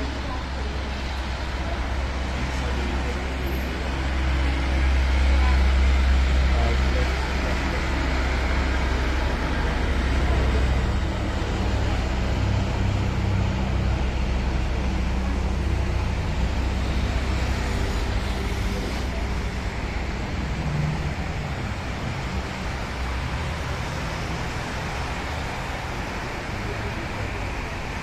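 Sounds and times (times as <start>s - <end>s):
low engine rumble: 0.0s - 28.0s
tyres hissing on wet road: 0.0s - 28.0s.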